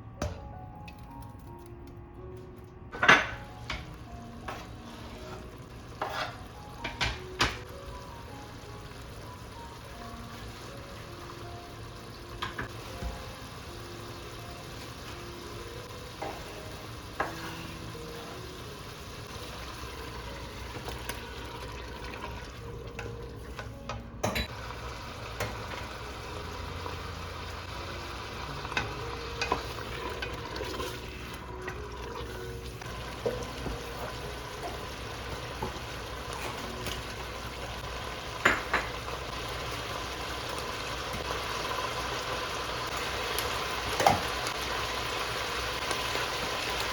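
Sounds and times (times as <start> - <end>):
food sizzling in a pan: 4.0 - 23.7, 24.3 - 46.9.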